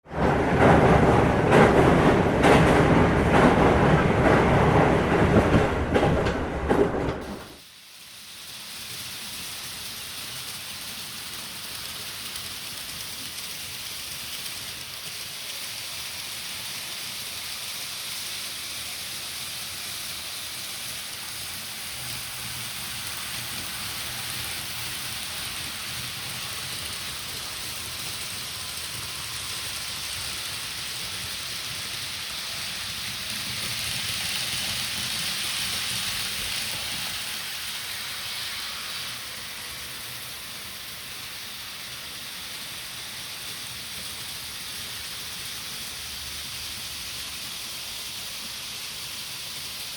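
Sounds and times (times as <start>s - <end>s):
train rumbling and clattering: 0.0s - 7.6s, 10.7s - 49.8s
steady hiss: 7.2s - 49.9s.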